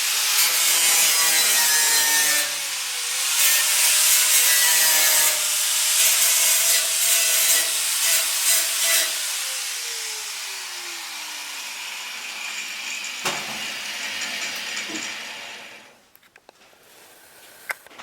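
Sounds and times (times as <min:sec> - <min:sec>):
power tool grinding sheet steel: 0:00.0 - 0:15.9.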